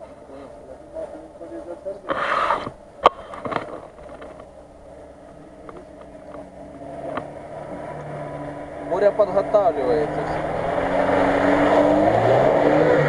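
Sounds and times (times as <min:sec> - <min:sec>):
suv engine driving: 0:00.0 - 0:13.0.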